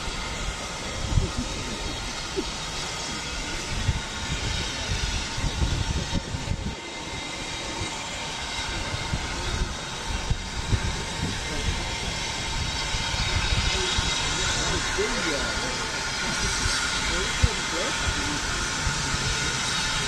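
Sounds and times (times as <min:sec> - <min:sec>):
low train rumbling: 0:00.0 - 0:20.0
steam train hissing: 0:00.0 - 0:20.0.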